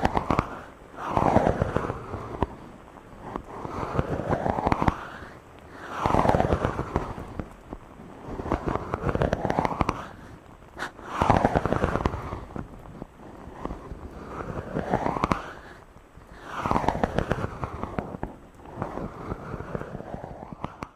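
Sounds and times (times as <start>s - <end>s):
microphone being rubbed: 0.0s - 20.9s.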